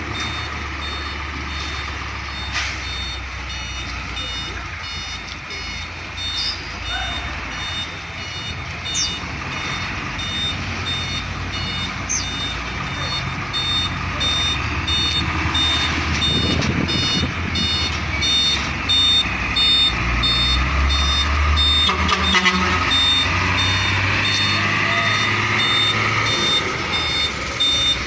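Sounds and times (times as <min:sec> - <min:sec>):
diesel engine rumbling: 0:00.0 - 0:28.0
truck reversing alarm beeping: 0:00.0 - 0:28.0.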